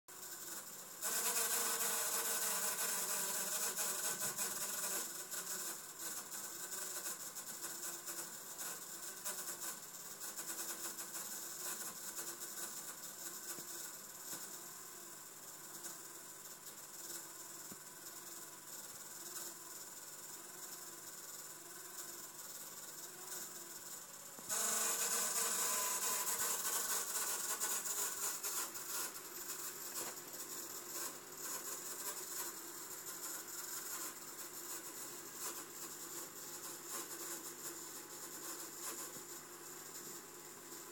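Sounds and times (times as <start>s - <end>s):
laptop hiss with faint whine: 0.1s - 40.9s.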